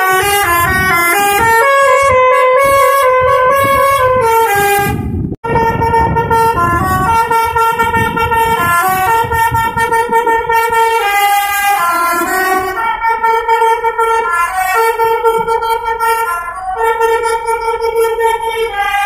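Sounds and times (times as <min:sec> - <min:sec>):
musical air horn playing notes: 0:00.0 - 0:19.0
low rumble: 0:00.2 - 0:19.0.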